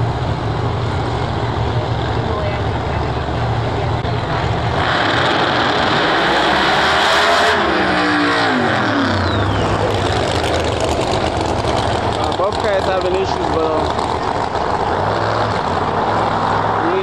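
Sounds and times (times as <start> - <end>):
drag car engines roaring: 0.0 - 17.0.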